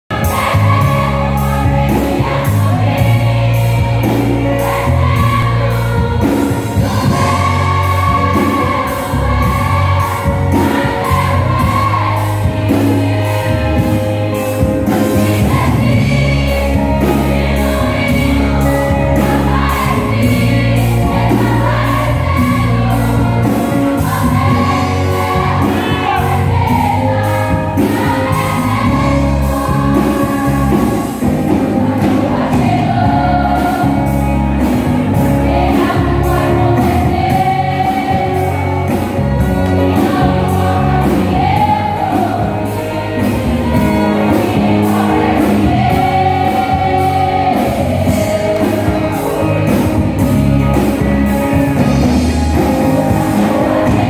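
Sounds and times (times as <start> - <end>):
women's choir singing a hymn: 0.1 - 51.0, 51.8 - 54.0
instrumental backing with beat: 0.1 - 54.0.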